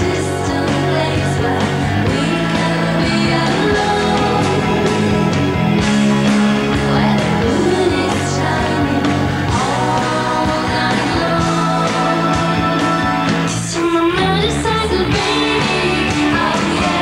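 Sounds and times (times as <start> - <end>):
women singing: 0.0 - 5.2, 6.6 - 17.0
electric guitars and bass: 0.0 - 17.0.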